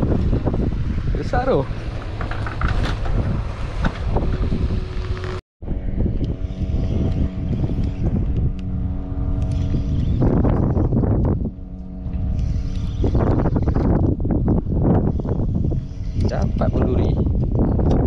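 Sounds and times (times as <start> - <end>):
boat engine droning: 0.0 - 18.0
wind noise on microphone: 0.0 - 18.0.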